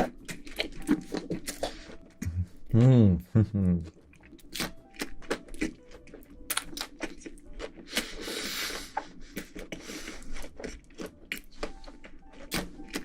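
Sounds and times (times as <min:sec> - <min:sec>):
wet chewing clicks and smacks: 0:00.0 - 0:02.4, 0:03.9 - 0:08.2, 0:09.0 - 0:13.0.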